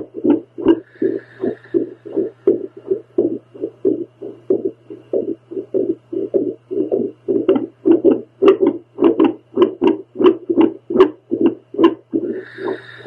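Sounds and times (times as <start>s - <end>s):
doppler heartbeat whooshing pulses: 0.0s - 13.0s
steady low hum: 0.0s - 13.0s.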